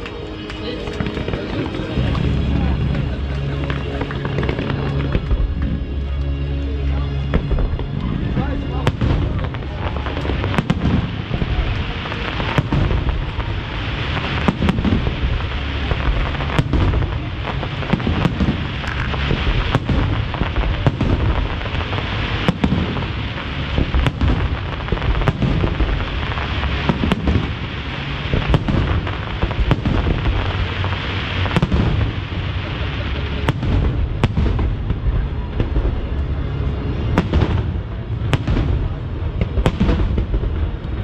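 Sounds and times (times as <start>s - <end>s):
rumble of fireworks bursts: 0.0s - 41.0s.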